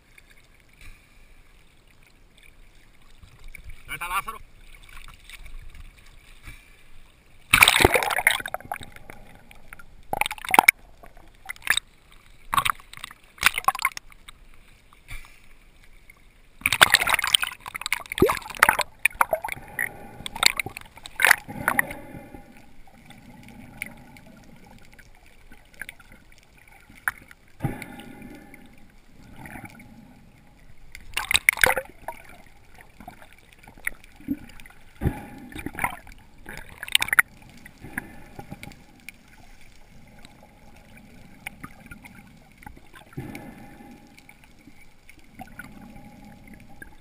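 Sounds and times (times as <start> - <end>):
sea water splashing: 0.0 - 47.0
underwater rush of water: 0.0 - 47.0.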